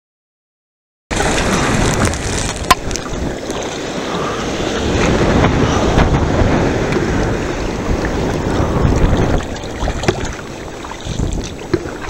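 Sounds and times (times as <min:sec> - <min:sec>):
water splashing around kayak: 0:01.1 - 0:12.0
wind noise on microphone: 0:01.1 - 0:12.0.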